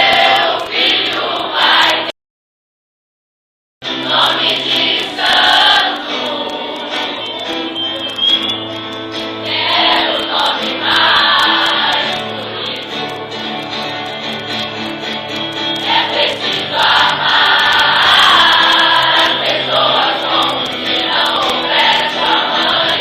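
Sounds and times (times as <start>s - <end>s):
choir singing: 0.0s - 2.1s, 3.8s - 23.0s
musical accompaniment: 3.8s - 23.0s.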